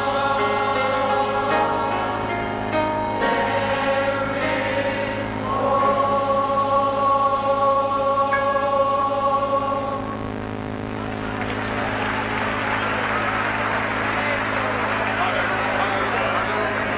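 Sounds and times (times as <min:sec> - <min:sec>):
choir singing gospel: 0:00.0 - 0:10.4, 0:11.0 - 0:16.9.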